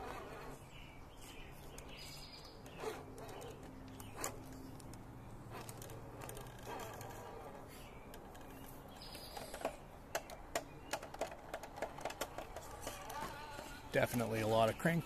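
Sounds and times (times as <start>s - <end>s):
faint electric motor hum: 0.0s - 15.0s.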